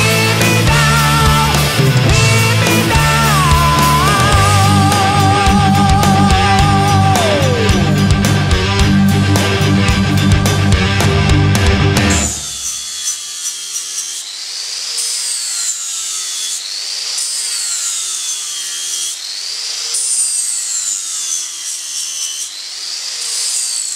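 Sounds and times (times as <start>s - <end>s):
angle grinder grinding metal: 0.0s - 23.9s.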